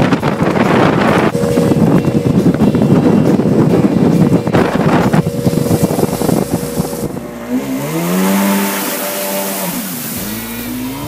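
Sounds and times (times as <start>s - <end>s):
wind and water rushing: 0.0s - 11.0s
jet ski engine passing: 1.0s - 11.0s.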